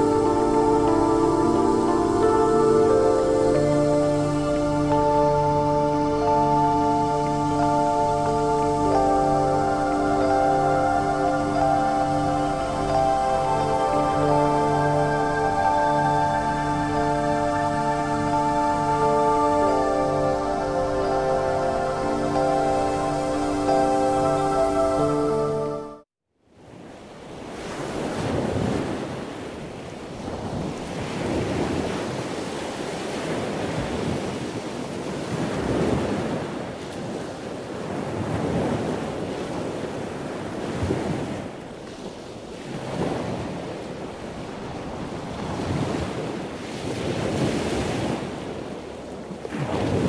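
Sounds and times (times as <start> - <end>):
ocean waves washing in: 0.0 - 26.0, 26.7 - 50.0
wind: 0.0 - 50.0.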